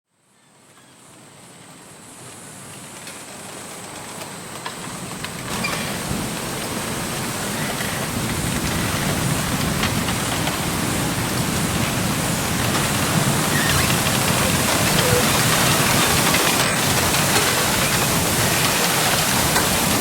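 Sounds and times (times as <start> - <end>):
wind rustling bamboo leaves: 0.5 - 20.0.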